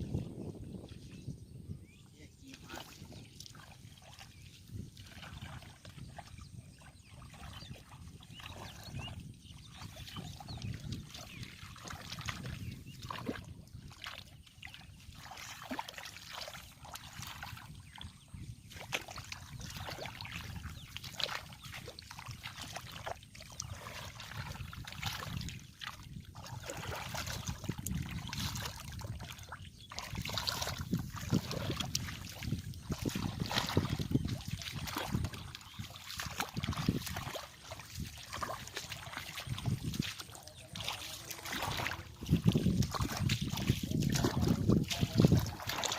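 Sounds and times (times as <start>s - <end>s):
shallow water splashing: 2.3s - 45.9s.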